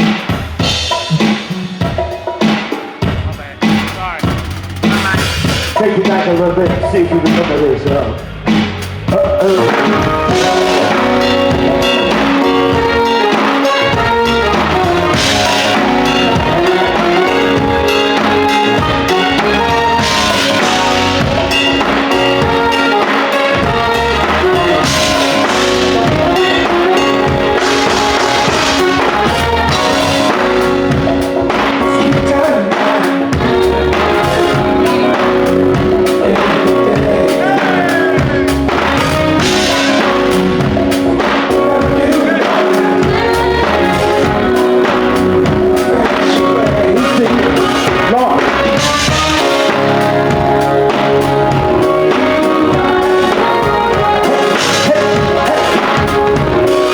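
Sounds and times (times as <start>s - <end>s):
drum kit: 0.0s - 56.9s
sustained keyboard chords: 0.0s - 56.9s
bass: 3.0s - 32.6s, 33.3s - 56.9s.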